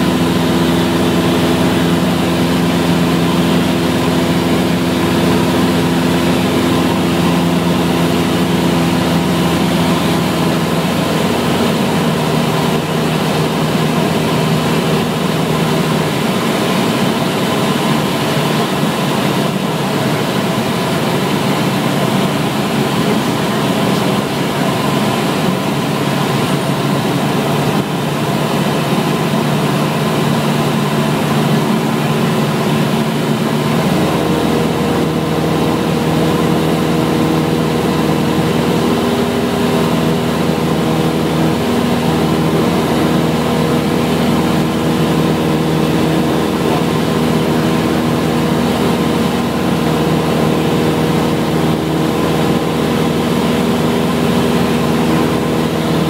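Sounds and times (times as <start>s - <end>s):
propeller engine droning: 0.0s - 56.0s.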